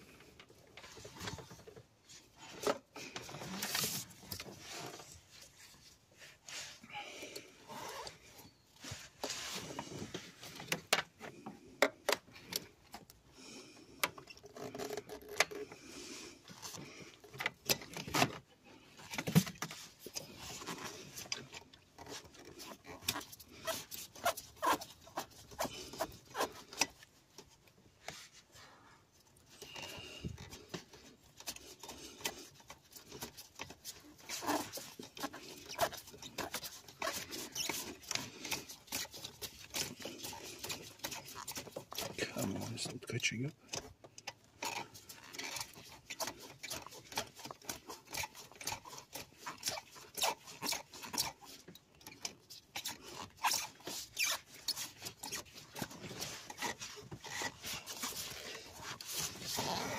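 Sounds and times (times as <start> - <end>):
hand tools clicking and scraping: 0.0 - 28.6, 29.2 - 59.9.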